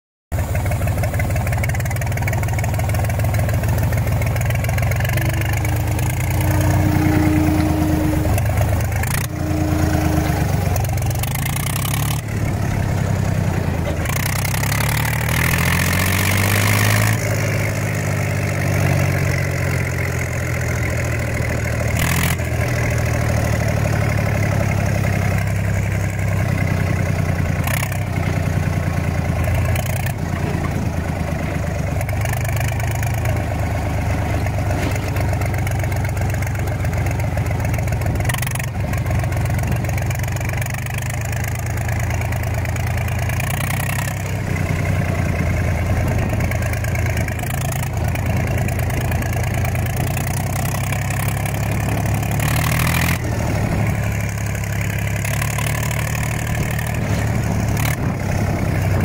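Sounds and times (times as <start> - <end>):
unmuffled tractor diesel engine: 0.3 - 59.0.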